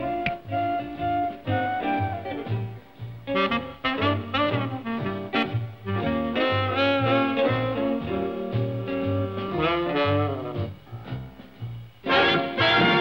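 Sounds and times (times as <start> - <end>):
jazzy cartoon music: 0.0 - 13.0.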